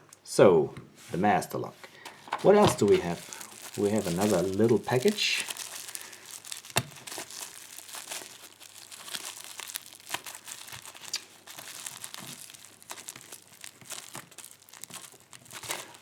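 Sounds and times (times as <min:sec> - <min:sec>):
package wrapping crinkling: 0:01.9 - 0:16.0.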